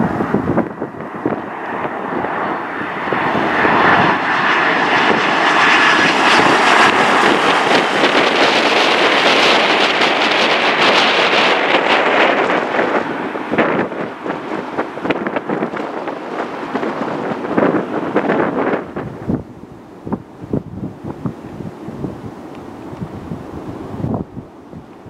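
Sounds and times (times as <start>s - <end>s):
faint engine whine: 0.0s - 25.0s
jet engines roaring: 0.0s - 25.0s.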